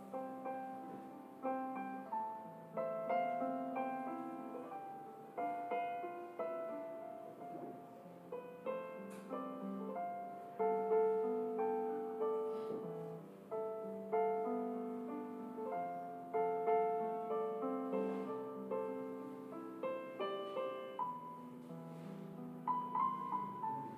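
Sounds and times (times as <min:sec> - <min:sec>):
gentle piano music: 0:00.0 - 0:23.9.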